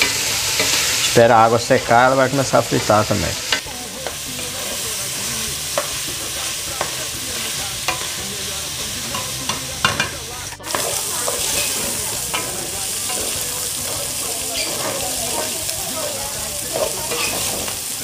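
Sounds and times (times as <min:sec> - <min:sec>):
meat sizzling in a pot: 0:00.0 - 0:18.0.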